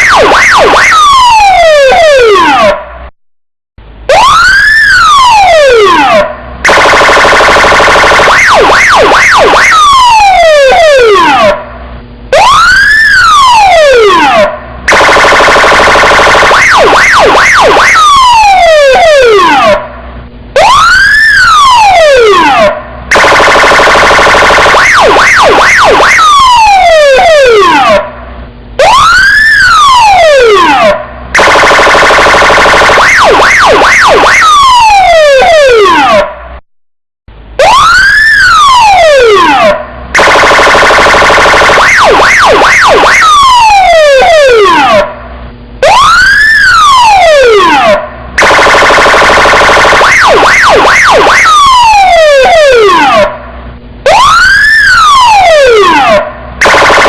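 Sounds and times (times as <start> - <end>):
police siren cycling tones: 0.0 - 3.0, 4.1 - 36.4, 37.6 - 57.0.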